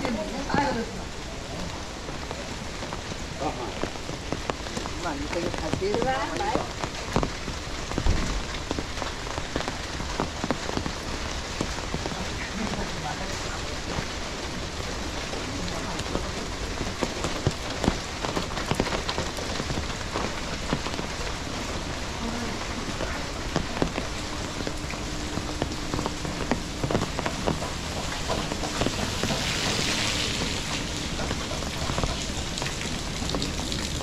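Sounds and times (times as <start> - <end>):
rain on a hard surface: 0.0 - 34.0
raindrops ticking: 0.0 - 34.0.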